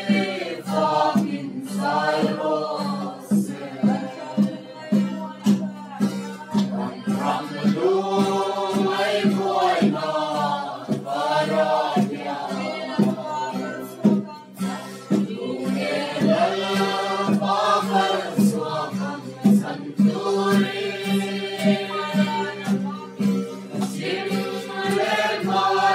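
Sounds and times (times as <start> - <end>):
acoustic guitar: 0.0 - 25.9
group singing a hymn: 0.0 - 25.9
steady drum beat: 0.0 - 25.9.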